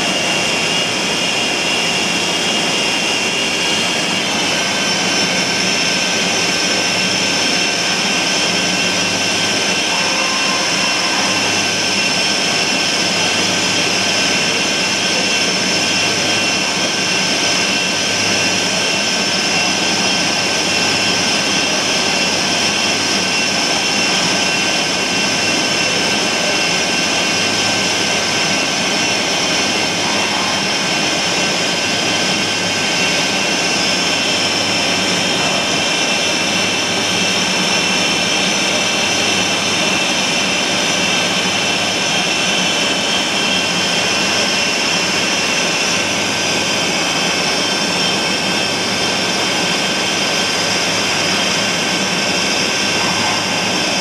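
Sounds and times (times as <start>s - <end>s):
lathe machining whine: 0.0s - 54.0s.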